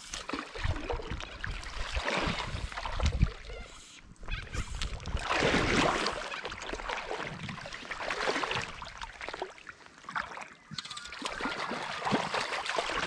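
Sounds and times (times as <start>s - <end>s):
river water sloshing and splashing: 0.0s - 13.0s.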